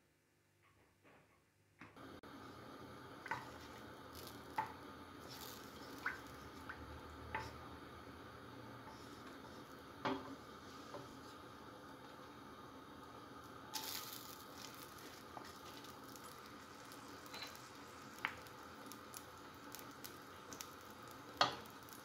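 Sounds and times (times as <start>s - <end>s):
butter sizzling in oil: 2.1s - 22.0s.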